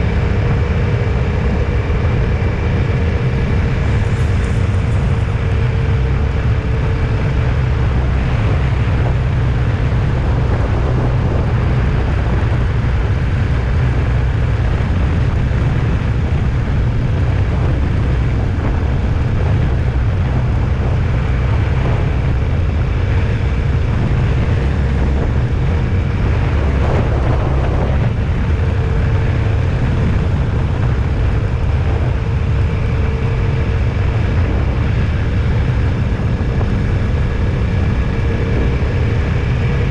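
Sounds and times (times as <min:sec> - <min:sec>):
faint constant hum: 0:00.0 - 0:39.9
vehicle engine and road rumble: 0:00.0 - 0:39.9.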